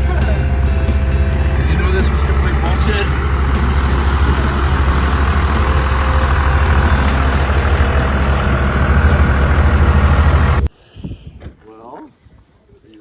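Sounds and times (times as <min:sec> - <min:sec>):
vehicle engine droning: 0:00.0 - 0:10.7.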